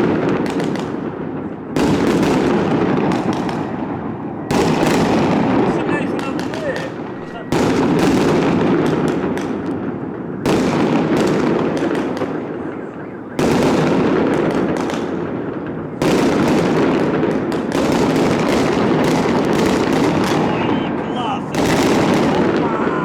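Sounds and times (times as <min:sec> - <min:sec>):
fireworks bang: 0:00.0 - 0:23.0
fireworks crackling rumble: 0:00.0 - 0:23.0.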